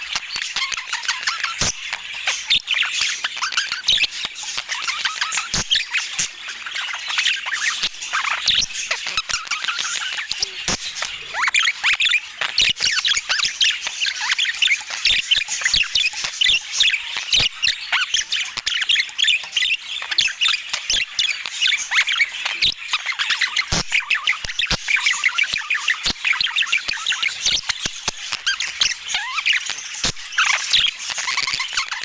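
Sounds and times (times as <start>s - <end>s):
budgerigars chirping: 0.0s - 32.0s.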